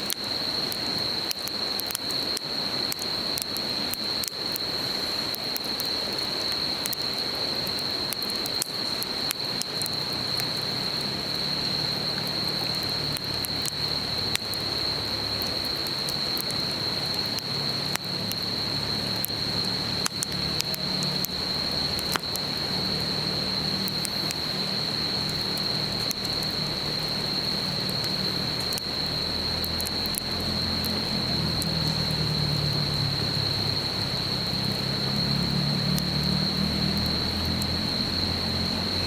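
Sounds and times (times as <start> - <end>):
campfire crackling and popping: 0.0 - 39.0
insect trill: 0.0 - 39.0.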